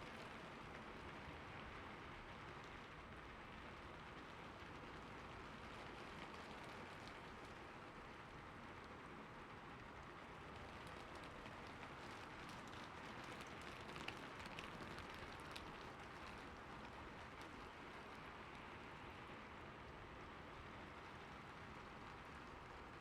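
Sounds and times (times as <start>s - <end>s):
raindrops pattering: 0.0s - 23.0s
soft rainfall: 0.0s - 23.0s.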